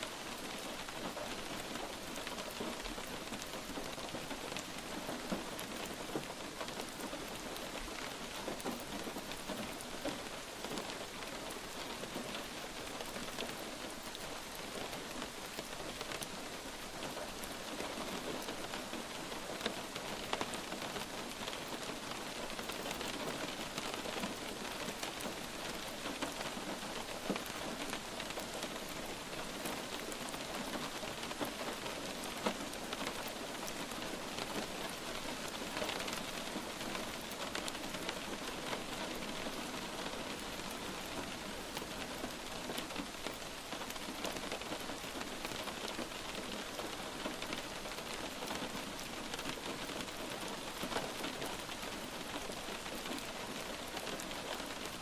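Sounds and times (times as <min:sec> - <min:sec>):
light rain pattering: 0:00.0 - 0:55.0.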